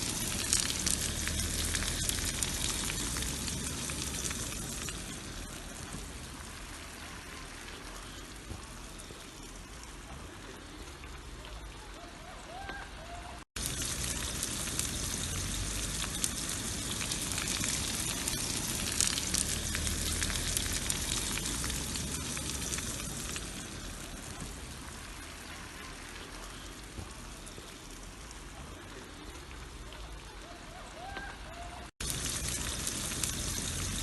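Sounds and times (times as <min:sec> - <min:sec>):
sausage sizzling in a pan: 0:00.0 - 0:11.4, 0:13.4 - 0:30.0, 0:31.8 - 0:34.0.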